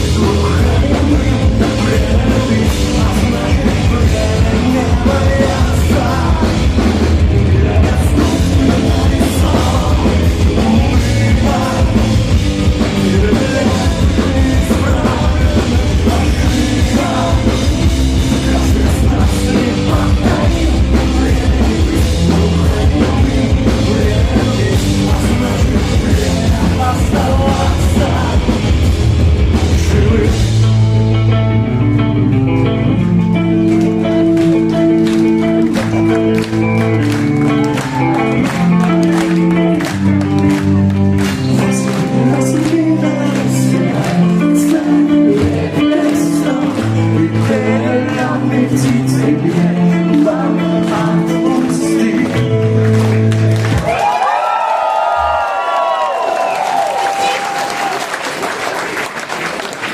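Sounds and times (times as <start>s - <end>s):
person singing: 0.0s - 28.8s, 29.7s - 30.8s, 32.9s - 52.9s
live rock band playing: 0.0s - 54.3s
drum kit: 0.0s - 55.6s.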